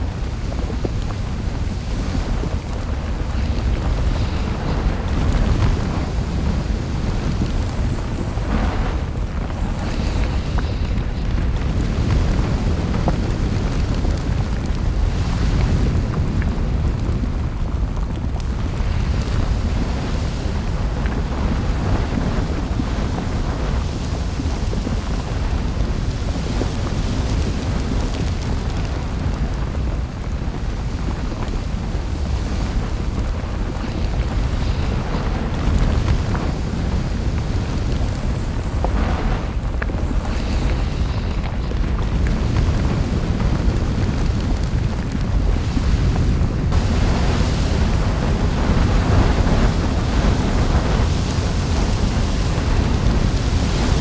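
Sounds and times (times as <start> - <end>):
crackles and pops: 0.0 - 54.0
volcanic eruption rumble: 0.0 - 54.0.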